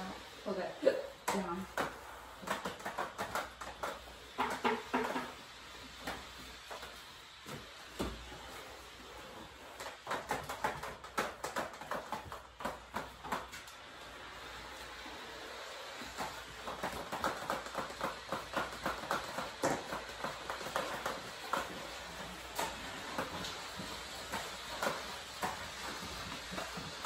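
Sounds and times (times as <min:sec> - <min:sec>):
steam mop knocking on tiles: 0:01.2 - 0:13.7, 0:16.0 - 0:27.0.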